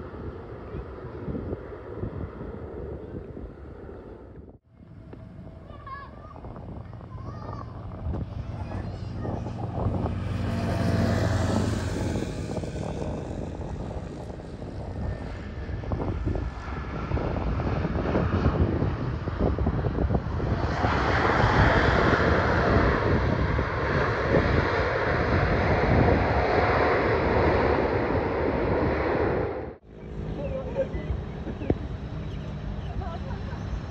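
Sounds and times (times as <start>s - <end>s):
jet airliner landing roar: 0.0s - 33.9s.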